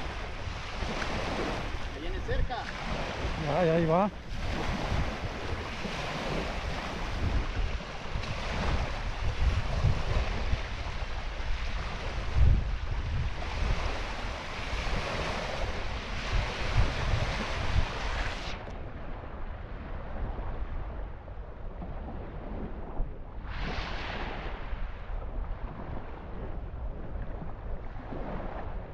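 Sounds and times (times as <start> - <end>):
small waves washing on shore: 0.0 - 28.9
wind buffeting microphone: 0.0 - 28.9.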